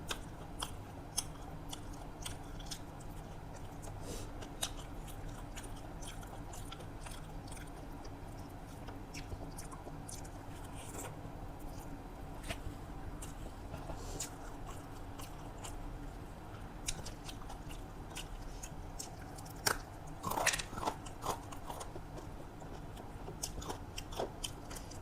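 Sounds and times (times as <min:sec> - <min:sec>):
close-up chewing and crunching: 0:00.0 - 0:25.0
steady low hum: 0:00.0 - 0:25.0.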